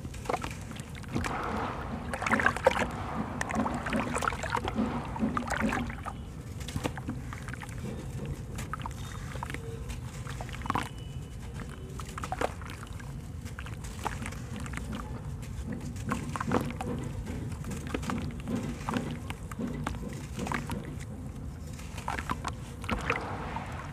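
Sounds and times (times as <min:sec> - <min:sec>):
hands sloshing in water: 0:00.0 - 0:23.9.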